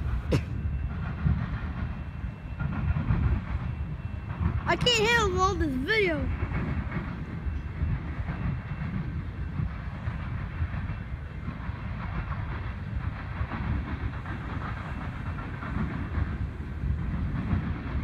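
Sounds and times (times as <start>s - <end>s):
freight train wheels rumbling and rattling: 0.0s - 18.0s.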